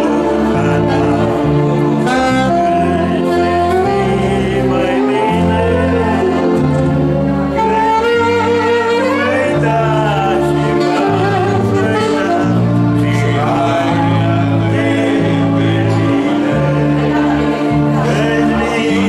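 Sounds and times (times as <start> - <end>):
bass line: 0.0 - 19.0
keyboard backing: 0.0 - 19.0
person singing: 0.0 - 19.0
saxophone: 0.0 - 19.0.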